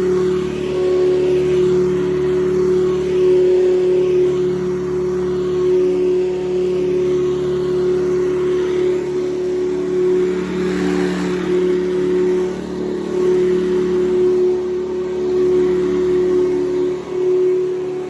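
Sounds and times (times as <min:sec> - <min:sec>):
vacuum cleaner motor humming: 0:00.0 - 0:18.0.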